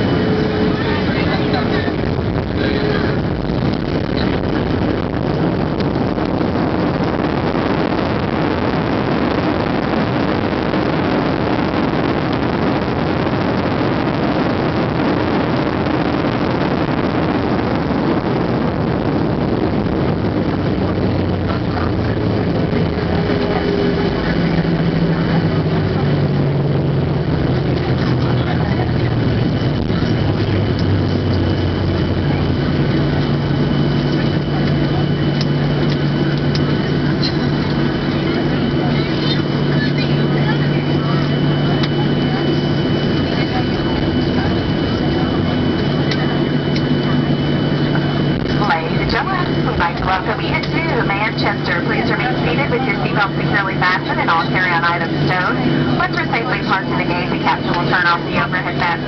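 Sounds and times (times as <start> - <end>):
jet engines and airflow rushing: 0.0 - 59.0
low engine hum with tones: 0.0 - 59.0.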